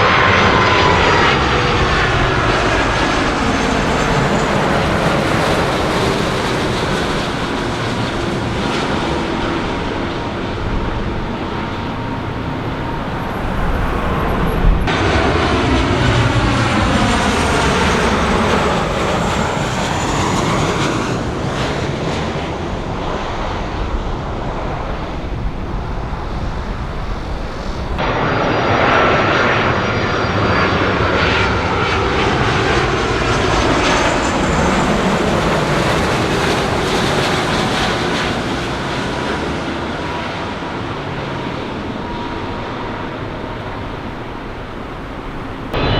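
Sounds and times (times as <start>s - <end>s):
jet airliners passing low: 0.0s - 45.9s.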